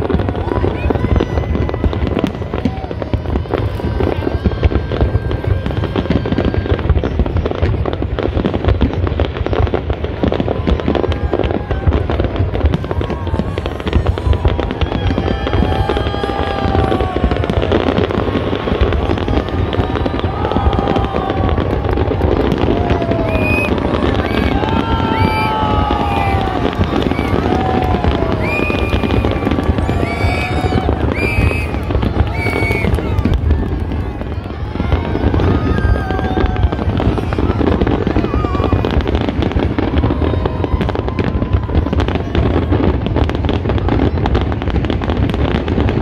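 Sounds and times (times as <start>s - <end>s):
fireworks popping and crackling: 0.0s - 46.0s.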